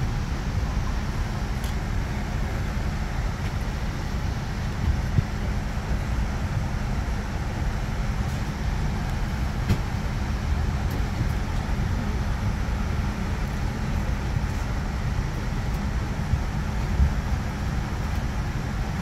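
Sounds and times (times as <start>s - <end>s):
airliner cabin rumble and hiss: 0.0s - 19.0s.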